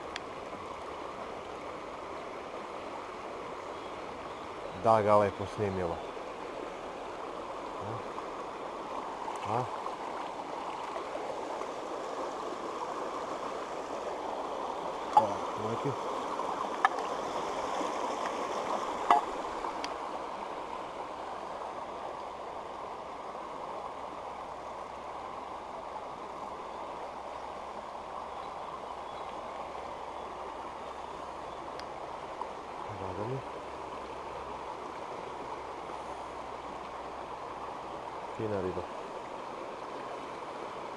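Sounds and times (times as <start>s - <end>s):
creek running over stones: 0.0s - 40.9s.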